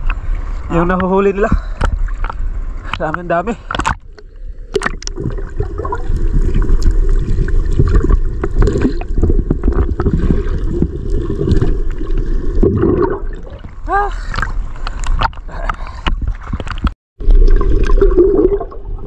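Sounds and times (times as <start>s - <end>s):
underwater gurgling of seawater: 3.7s - 19.0s.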